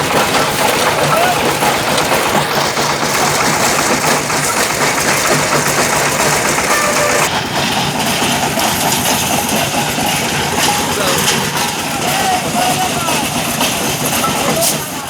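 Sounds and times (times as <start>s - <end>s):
brick-breaking machine engine crushing: 0.0s - 15.0s.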